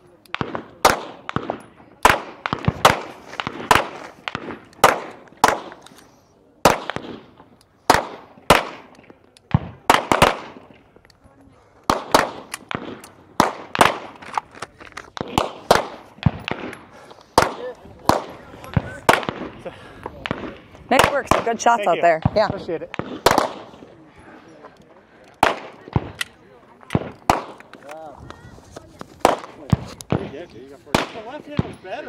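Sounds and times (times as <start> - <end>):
gunshots: 0.3 - 6.0, 6.6 - 10.8, 11.8 - 14.5, 15.1 - 23.9, 25.4 - 27.9, 29.2 - 32.0.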